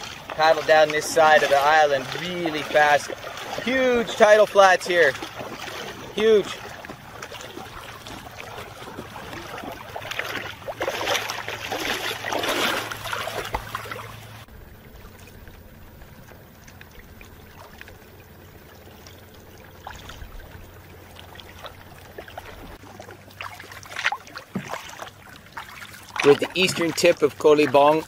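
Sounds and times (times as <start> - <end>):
faint water drips: 0.0 - 28.0
water lapping: 0.0 - 28.0
water splashing and trickling: 0.0 - 28.0.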